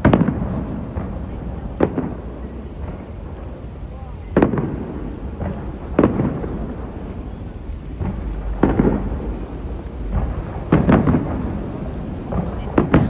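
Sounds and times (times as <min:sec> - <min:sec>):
fireworks shells booming: 0:00.0 - 0:13.0.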